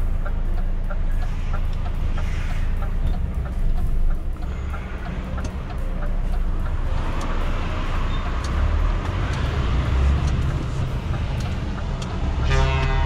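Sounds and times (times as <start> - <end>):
road noise: 0.0 - 13.0
truck diesel engine under load: 0.0 - 13.0.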